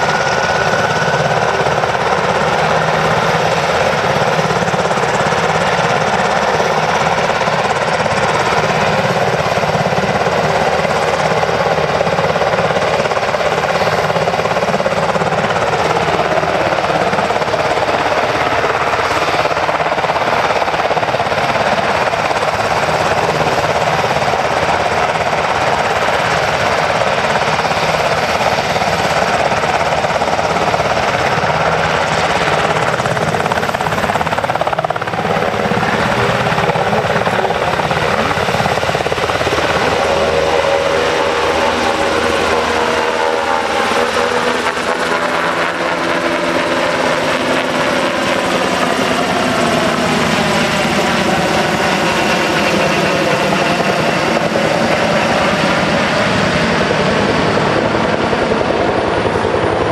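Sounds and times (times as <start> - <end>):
helicopter engines and rotor: 0.0 - 59.9.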